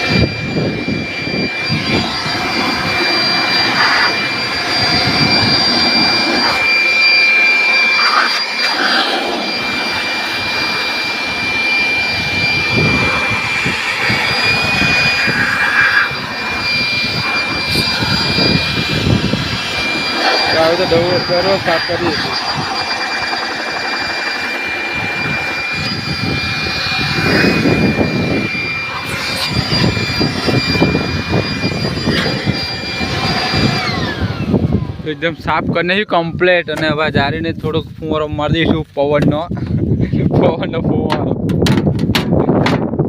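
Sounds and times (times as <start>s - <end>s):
electric blower whining: 0.0s - 37.7s.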